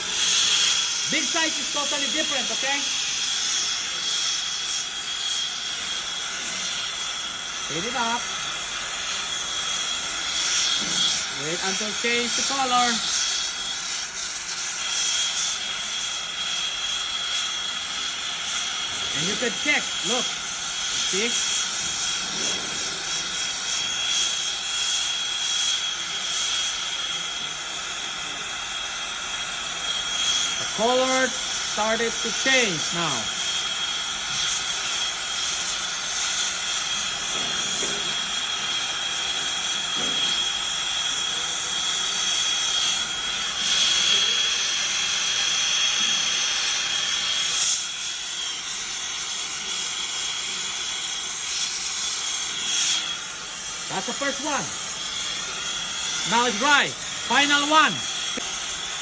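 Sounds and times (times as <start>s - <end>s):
thin steady whistle: 0.0s - 59.0s
torch flame hissing: 0.0s - 59.0s.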